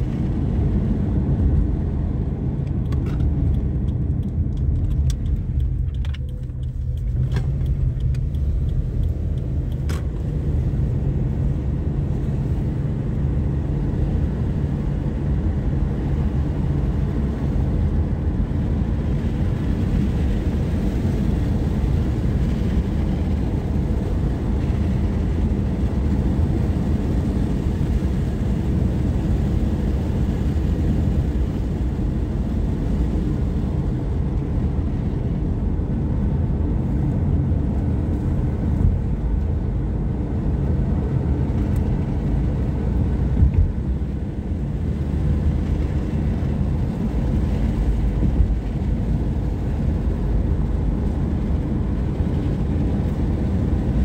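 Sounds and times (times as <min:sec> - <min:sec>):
car rumble inside cabin: 0:00.0 - 0:54.0.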